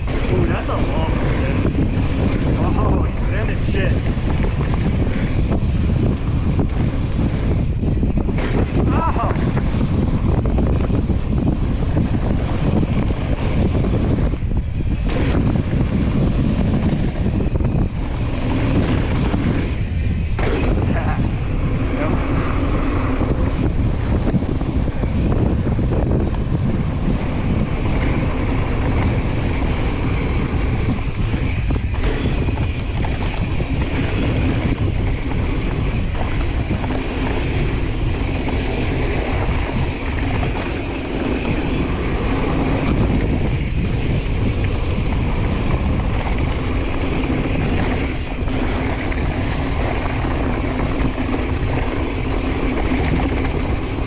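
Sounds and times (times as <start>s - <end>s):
bike tyres rumbling on dirt: 0.0s - 54.0s
wind rushing over microphone: 0.0s - 54.0s.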